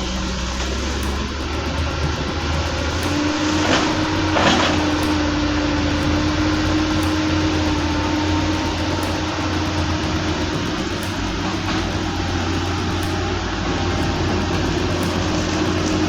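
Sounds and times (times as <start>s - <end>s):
excavator diesel engine running: 0.0s - 16.0s
hydraulic whine: 0.0s - 16.0s.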